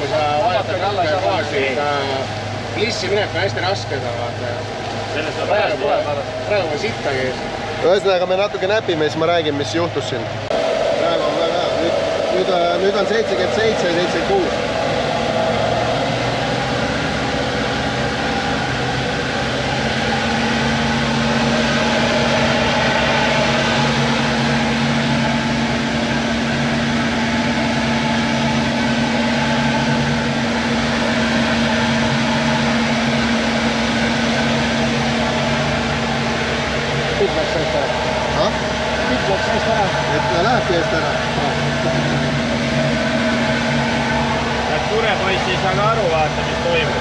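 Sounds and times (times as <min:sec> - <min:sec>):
boat engine droning: 0:00.0 - 0:47.0.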